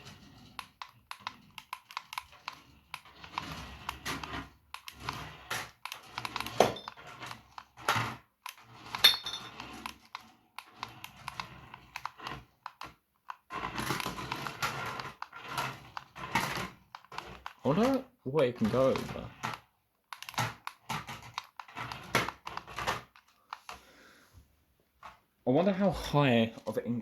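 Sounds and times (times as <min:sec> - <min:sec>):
plastic toy car clicking: 0:00.0 - 0:23.8.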